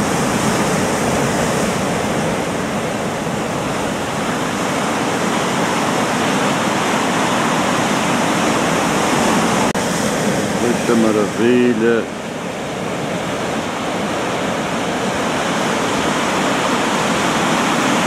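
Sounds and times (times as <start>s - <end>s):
surf breaking over rocks: 0.0s - 18.0s.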